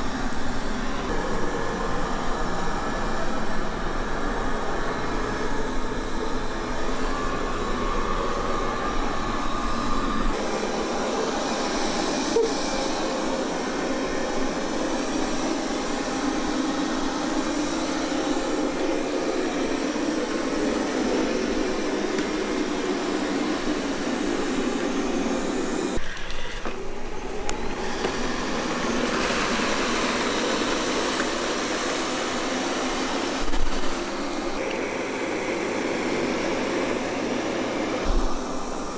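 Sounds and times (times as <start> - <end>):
robot vacuum cleaner hum: 0.0 - 38.9.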